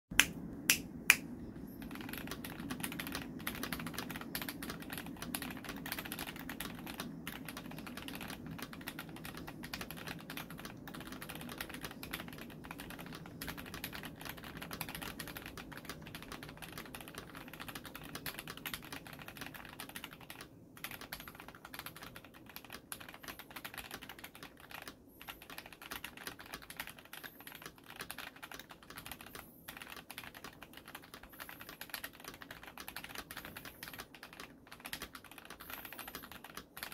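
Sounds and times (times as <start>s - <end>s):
fast mechanical keyboard typing: 1.6s - 36.9s.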